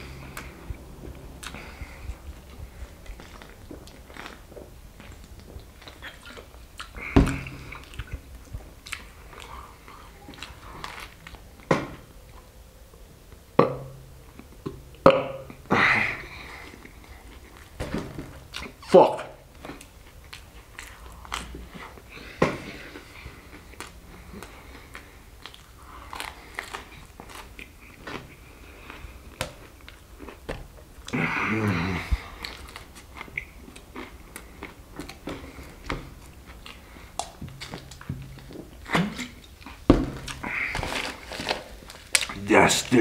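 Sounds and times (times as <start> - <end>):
crunchy chewing: 0.0 - 11.4, 19.5 - 43.0.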